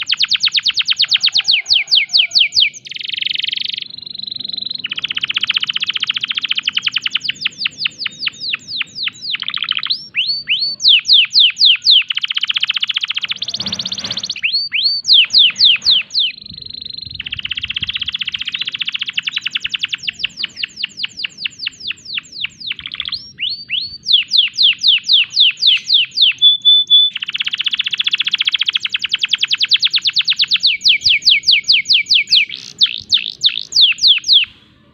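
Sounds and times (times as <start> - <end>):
canary singing: 0.0 - 34.8.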